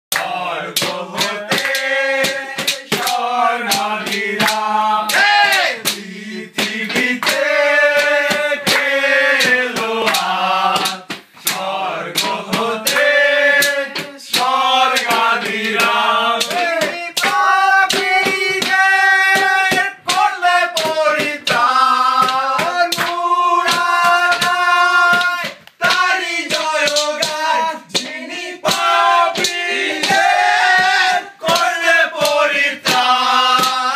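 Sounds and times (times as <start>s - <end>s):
men singing a devotional chant: 0.1s - 33.9s
rhythmic hand clapping: 0.1s - 33.9s.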